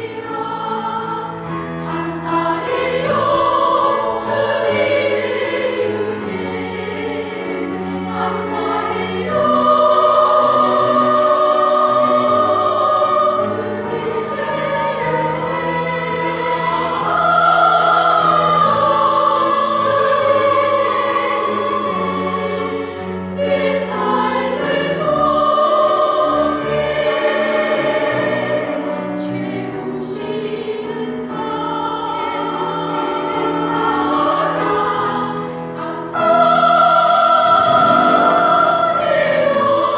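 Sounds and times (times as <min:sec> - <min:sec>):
vocal ensemble singing a hymn: 0:00.0 - 0:39.9.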